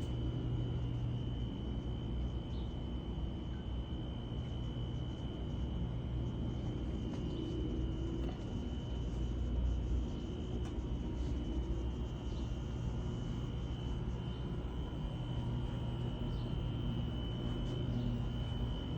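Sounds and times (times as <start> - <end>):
garage door motor rumble and whine: 0.0 - 18.9.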